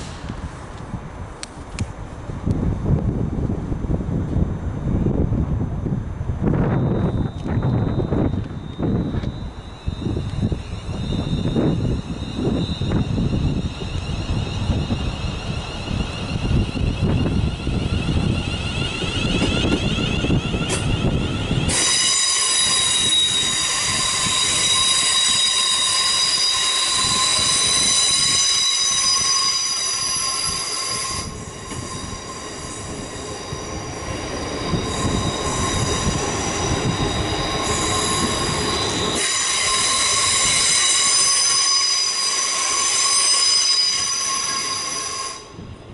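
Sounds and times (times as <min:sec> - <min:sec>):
electric train running noise: 0:06.4 - 0:45.9
high-pitched multi-tone squeal: 0:06.5 - 0:45.7.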